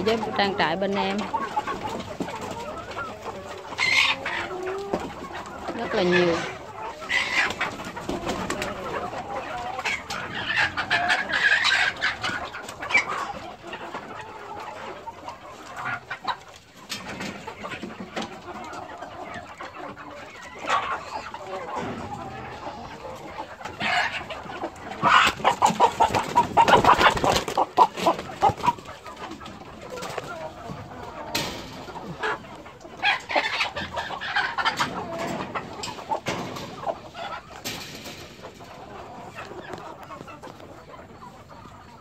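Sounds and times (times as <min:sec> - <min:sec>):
chickens clucking and calling: 0:00.0 - 0:42.0.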